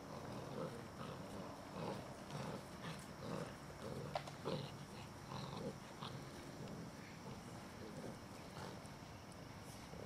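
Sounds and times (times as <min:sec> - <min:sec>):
puppies grunting and growling: 0:00.0 - 0:08.9.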